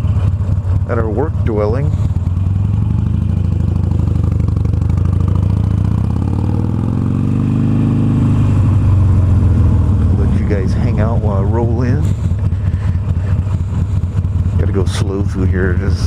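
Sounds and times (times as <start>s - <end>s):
motorcycle engine riding slowly: 0.0s - 16.0s.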